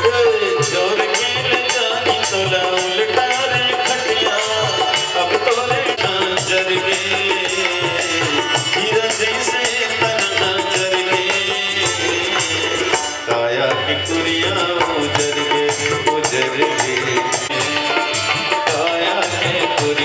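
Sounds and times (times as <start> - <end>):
pitched instrumental lines: 0.0 - 20.0
tabla drumming fast rhythm: 0.0 - 20.0.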